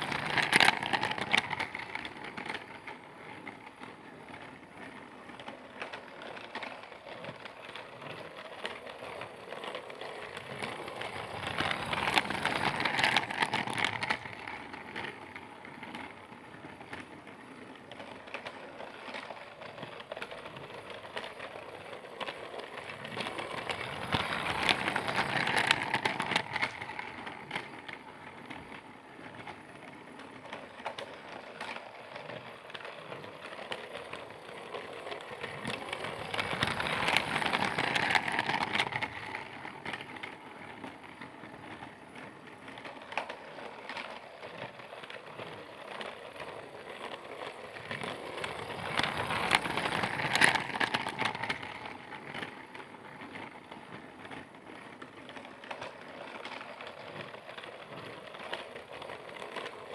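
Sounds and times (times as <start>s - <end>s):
toy train wheels clattering: 0.0s - 59.9s.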